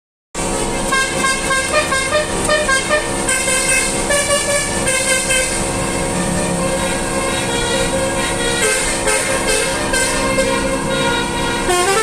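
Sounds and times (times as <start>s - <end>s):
multi-tone vehicle horn melody: 0.4s - 12.0s.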